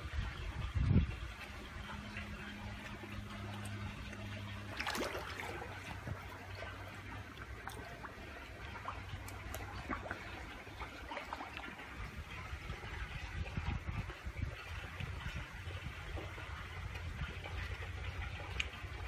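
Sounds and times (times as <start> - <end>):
water trickling: 0.0 - 19.0
small splashes and clicks: 1.1 - 19.0.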